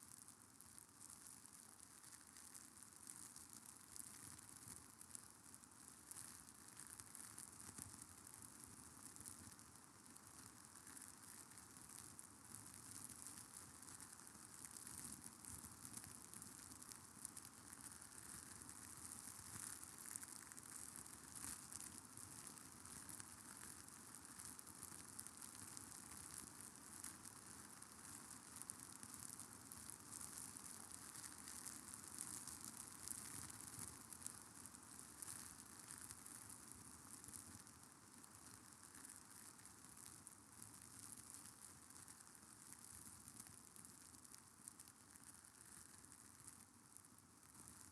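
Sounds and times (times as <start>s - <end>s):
faint crackling hiss: 0.0s - 47.9s.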